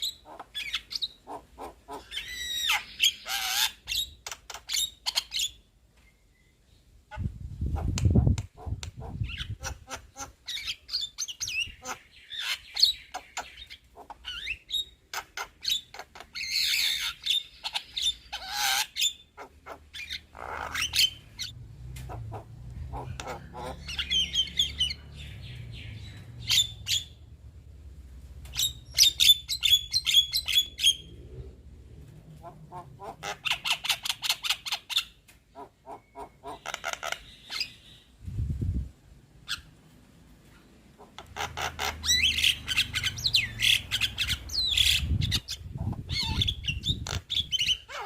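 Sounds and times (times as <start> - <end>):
myna bird chattering: 0.0 - 5.6, 7.1 - 27.2, 32.4 - 38.1, 41.0 - 48.0.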